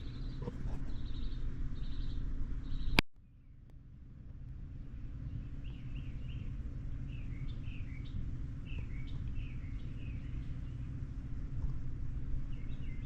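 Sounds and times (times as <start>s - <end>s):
small bird chirping: 0.0s - 3.0s, 5.3s - 13.0s
low background rumble: 0.0s - 13.0s.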